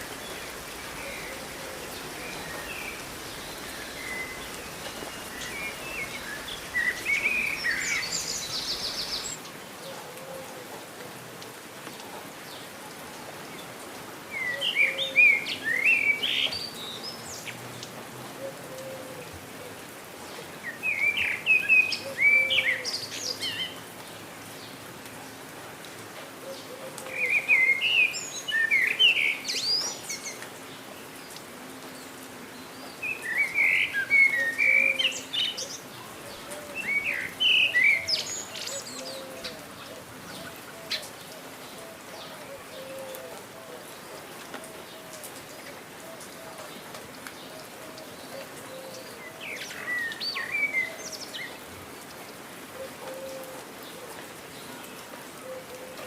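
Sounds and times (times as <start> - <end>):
rain hiss: 0.0 - 56.0.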